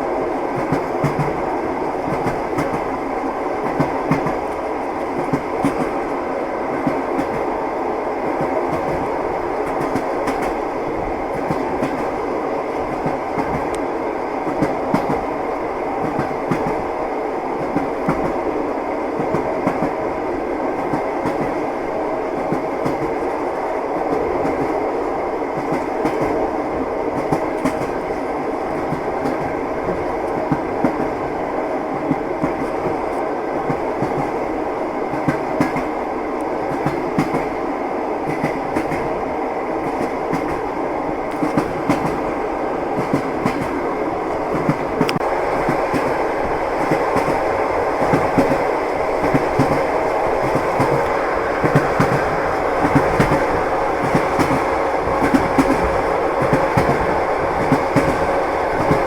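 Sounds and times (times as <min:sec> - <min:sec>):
train wheels clattering on rails: 0:00.0 - 0:37.6, 0:38.2 - 0:59.0.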